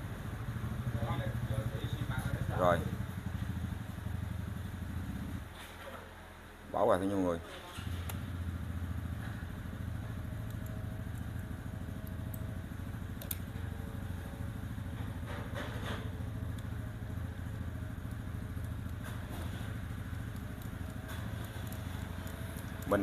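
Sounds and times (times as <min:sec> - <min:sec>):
small engine idling: 0:00.0 - 0:05.6, 0:07.7 - 0:23.0.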